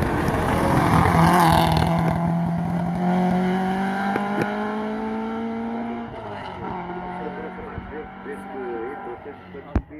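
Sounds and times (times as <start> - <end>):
car engine accelerating: 0.0 - 9.9.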